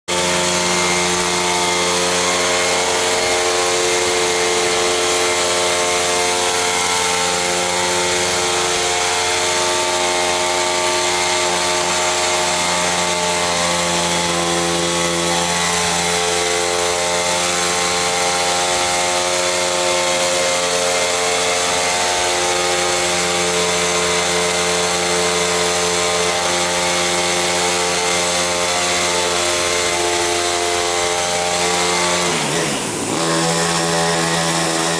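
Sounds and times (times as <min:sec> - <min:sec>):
model helicopter engine and rotor: 0:00.1 - 0:34.9.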